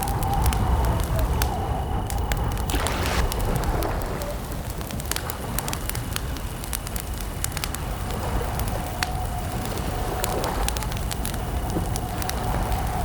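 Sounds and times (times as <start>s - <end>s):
campfire crackling: 0.0s - 13.0s
crickets chirring: 0.0s - 13.0s.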